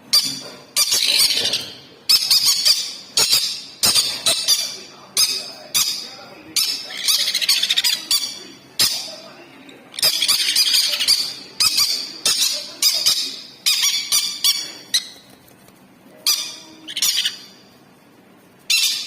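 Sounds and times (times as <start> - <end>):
chicks squawking: 0.0 - 15.4, 16.3 - 17.7, 18.7 - 19.0.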